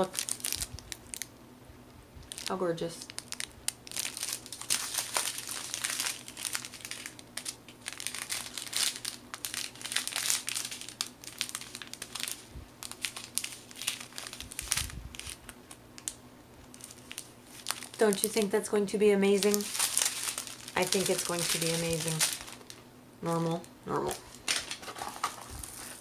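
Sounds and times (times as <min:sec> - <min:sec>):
plastic packaging crinkling: 0:00.0 - 0:01.3, 0:02.2 - 0:22.9, 0:23.5 - 0:26.0.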